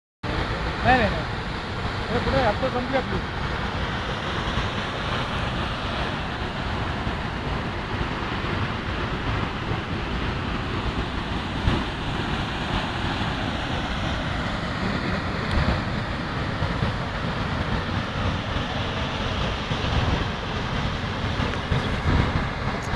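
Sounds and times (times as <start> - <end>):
waterfall rushing: 0.3 - 22.9
wind buffeting microphone: 3.0 - 22.9.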